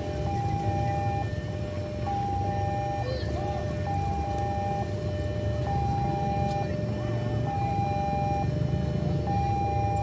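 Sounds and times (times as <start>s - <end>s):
level crossing two-tone alarm: 0.0s - 10.0s.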